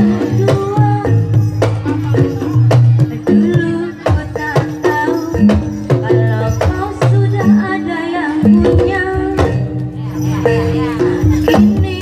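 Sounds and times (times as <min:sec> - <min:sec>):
wavering melody: 0:00.0 - 0:12.0.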